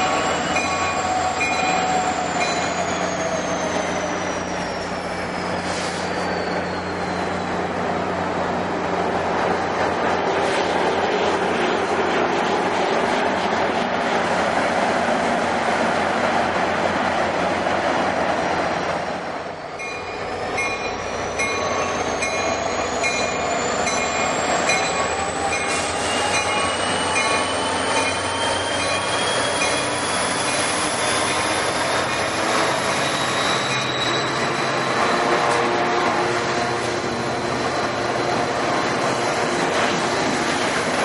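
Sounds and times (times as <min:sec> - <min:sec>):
train running past: 0:00.0 - 0:41.0.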